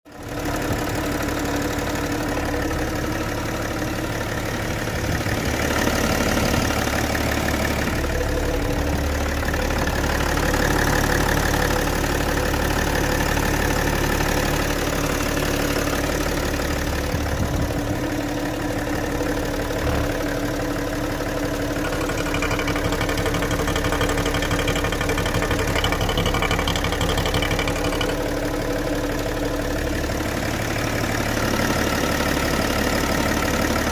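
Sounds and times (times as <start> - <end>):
diesel engine idling with knocking: 0.1 - 33.9.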